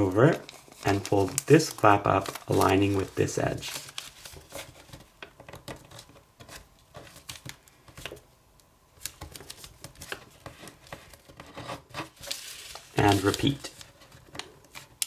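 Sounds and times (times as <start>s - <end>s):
paper being folded and creased: 0.0s - 8.2s, 9.0s - 15.0s.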